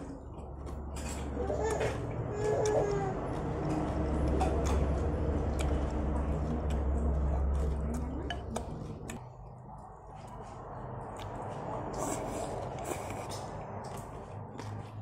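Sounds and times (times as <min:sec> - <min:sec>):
low steady hum: 0:00.0 - 0:15.0
wet chewing and mouth smacking: 0:01.8 - 0:09.2, 0:09.8 - 0:15.0.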